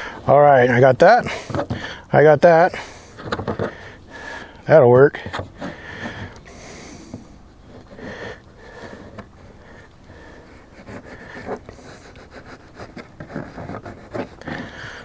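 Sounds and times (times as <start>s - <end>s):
person breathing and sniffing: 0.0s - 0.3s, 1.2s - 2.1s, 2.8s - 4.6s, 5.2s - 15.0s.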